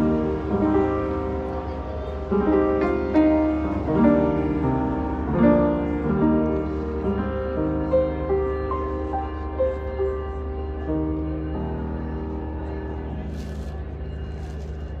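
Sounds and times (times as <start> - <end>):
upright piano chords and melody: 0.0 - 15.0.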